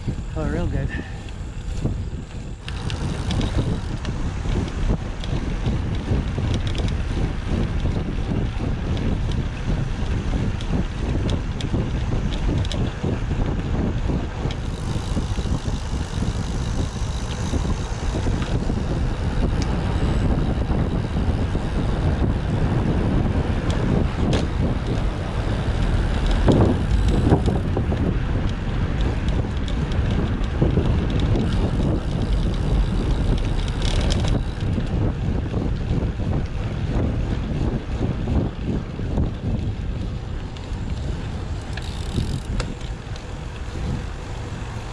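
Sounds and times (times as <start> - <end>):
road and tyre noise: 0.0 - 44.9
wind rushing over microphone: 0.0 - 44.9.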